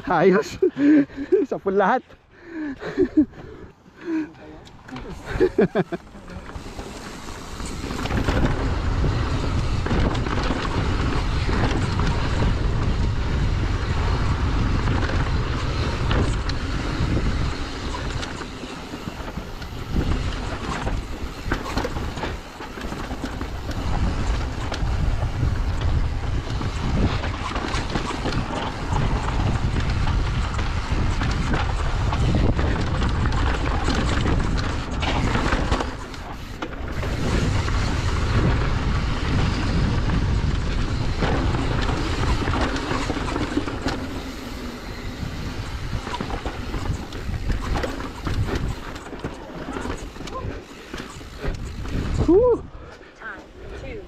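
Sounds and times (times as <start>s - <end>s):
bike rumbling on rocky trail: 0.0s - 54.0s
wind over microphone: 4.7s - 54.0s
bike knocks and rattles: 4.9s - 52.5s.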